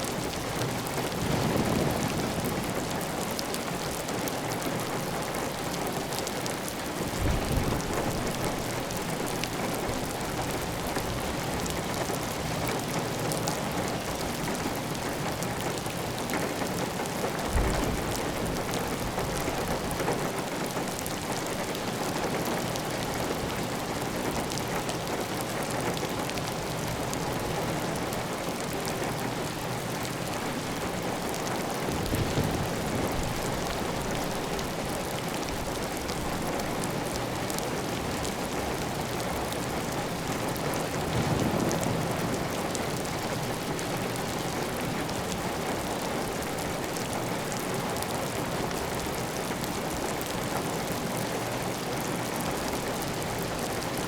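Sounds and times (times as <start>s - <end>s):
rain pattering on a tiled roof: 0.0s - 54.0s.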